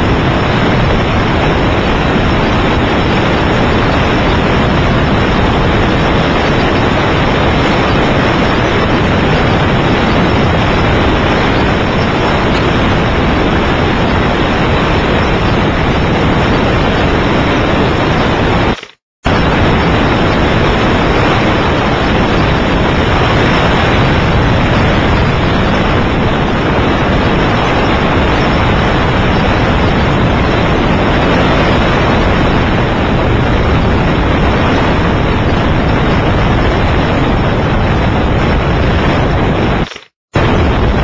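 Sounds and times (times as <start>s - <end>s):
aircraft engine and wind noise: 0.0s - 41.0s.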